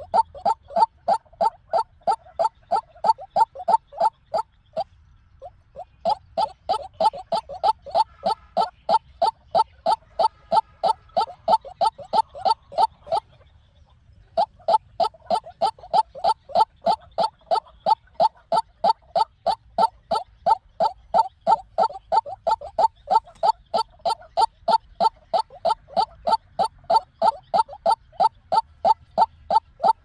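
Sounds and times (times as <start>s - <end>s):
waterhen calling repeated notes: 0.0s - 30.0s.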